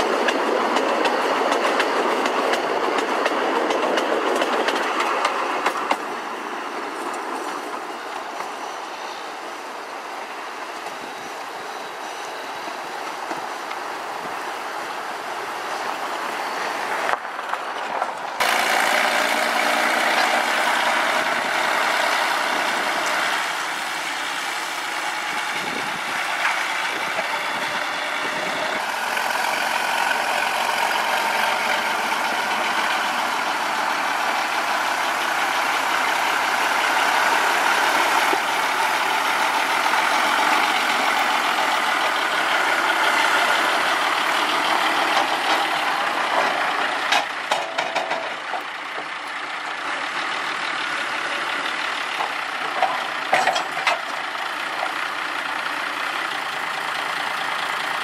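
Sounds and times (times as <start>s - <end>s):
train running: 0.0s - 58.0s.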